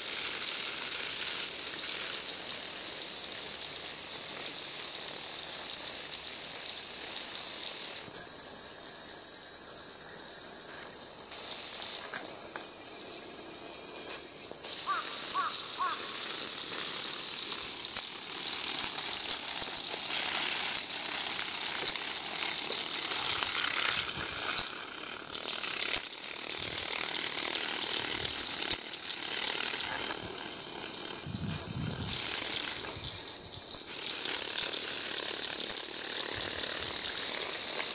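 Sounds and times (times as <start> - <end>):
cicadas buzzing: 0.0 - 37.9.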